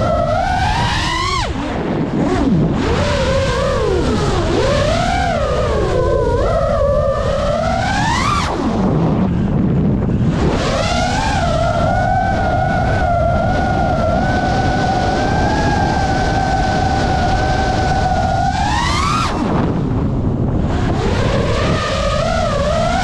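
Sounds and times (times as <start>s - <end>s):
quadcopter motors whining: 0.0s - 23.0s
wind on microphone: 0.0s - 23.0s.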